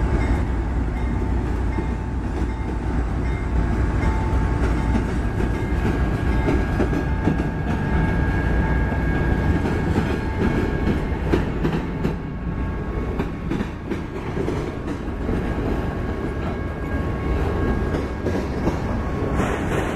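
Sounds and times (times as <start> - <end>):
train wheels rumbling on rail: 0.0 - 19.9
clickety-clack over rail joints: 1.7 - 8.3, 9.1 - 19.9.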